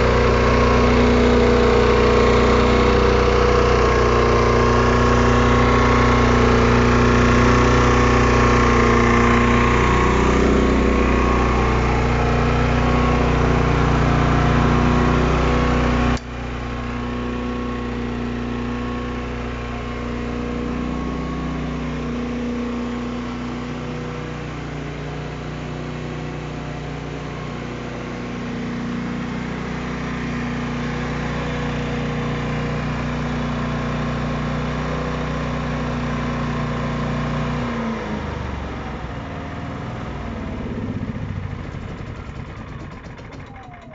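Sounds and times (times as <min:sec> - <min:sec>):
generator engine running: 0:00.0 - 0:43.9.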